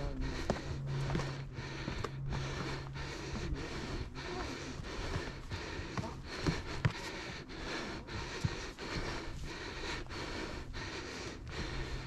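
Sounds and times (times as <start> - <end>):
footsteps on wood and gravel: 0.0 - 12.0
heavy breathing: 0.0 - 12.0.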